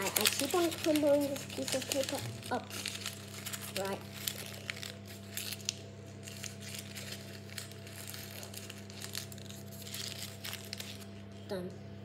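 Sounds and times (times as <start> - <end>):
paper crumpling: 0.0 - 11.4
steady low hum: 0.0 - 12.0.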